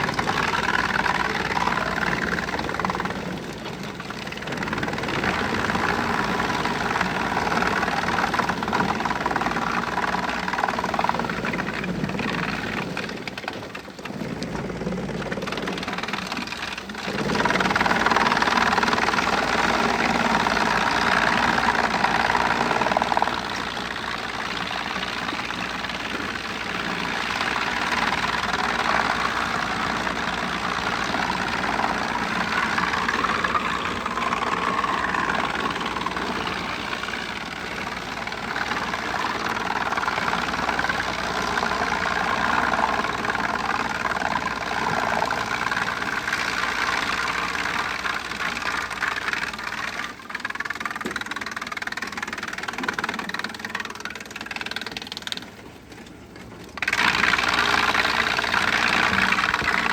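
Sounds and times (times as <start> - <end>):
wood chipper running: 0.0 - 59.9.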